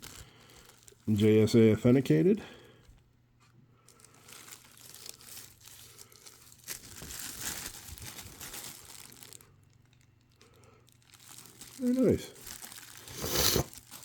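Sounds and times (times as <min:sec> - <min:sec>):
packaging crinkling: 0:00.0 - 0:01.2, 0:03.8 - 0:14.0.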